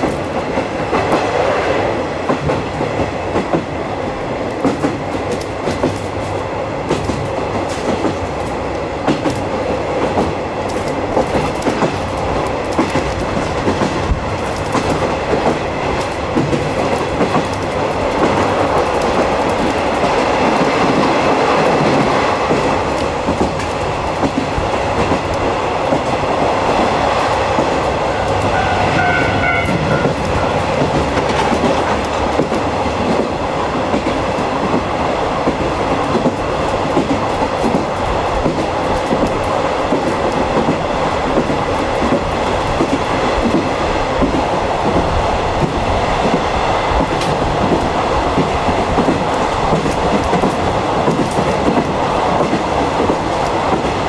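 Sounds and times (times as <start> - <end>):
rail joints clickety-clack: 0.0 - 54.0
train wheels rumbling on rails: 0.0 - 54.0.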